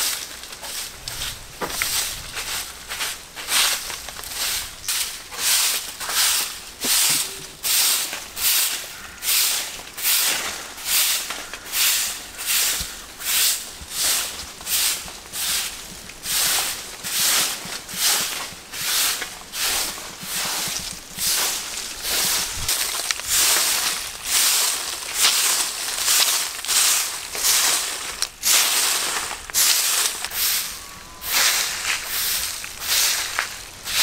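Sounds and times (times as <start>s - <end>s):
broom sweeping dirt ground: 0.0s - 34.0s.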